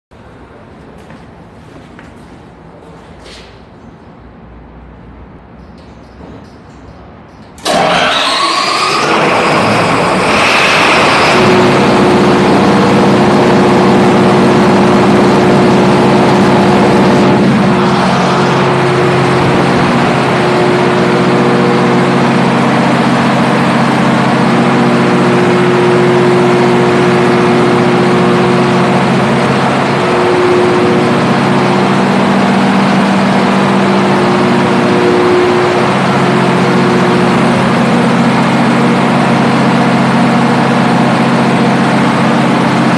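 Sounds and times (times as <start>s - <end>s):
diesel generator running: 0.2s - 42.9s.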